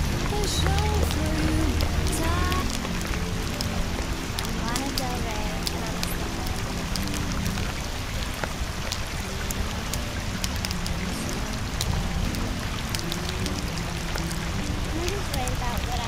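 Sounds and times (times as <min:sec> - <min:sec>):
faint music with low notes: 0:00.0 - 0:16.0
rain-like hiss with crackles: 0:00.0 - 0:16.0.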